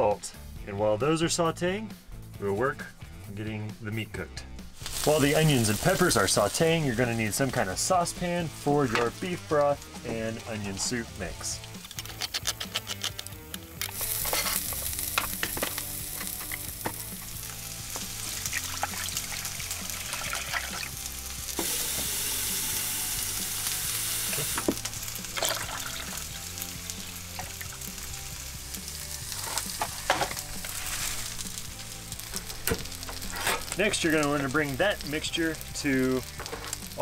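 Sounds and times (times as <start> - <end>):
soft background music: 0.0 - 37.0
vegetables sizzling in oil: 4.8 - 37.0.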